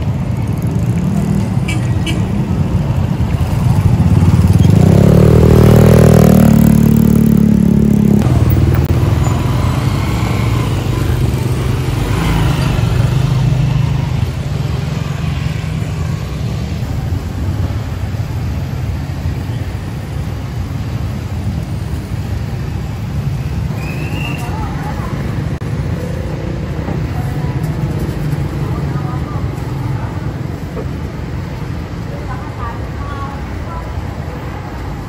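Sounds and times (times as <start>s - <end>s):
motorcycle tricycle engine running: 0.0s - 33.7s
street traffic hum: 0.0s - 35.0s.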